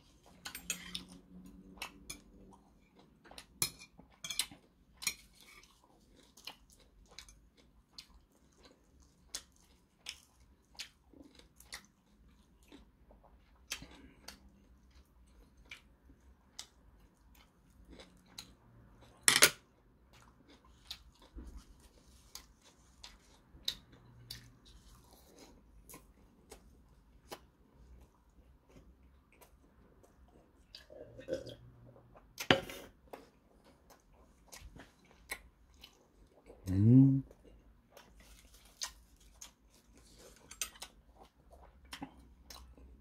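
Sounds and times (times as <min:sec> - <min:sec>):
mouth chewing food: 0:00.0 - 0:43.0.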